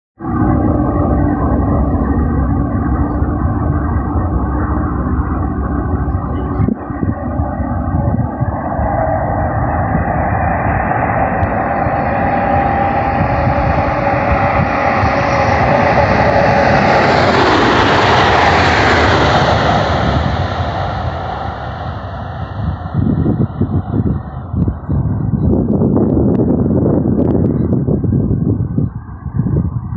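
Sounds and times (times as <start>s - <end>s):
high-speed train passing: 0.2s - 29.9s.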